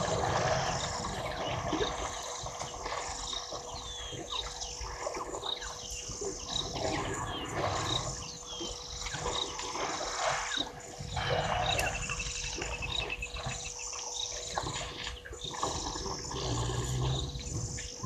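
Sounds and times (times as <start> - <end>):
elephants rumbling: 0.0 - 18.0
water sloshing: 0.0 - 18.0.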